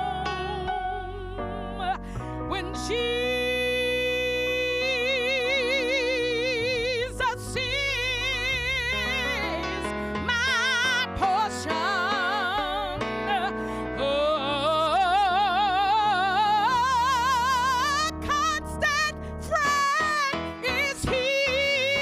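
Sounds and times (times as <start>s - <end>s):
woman singing with vibrato: 0.0s - 22.0s.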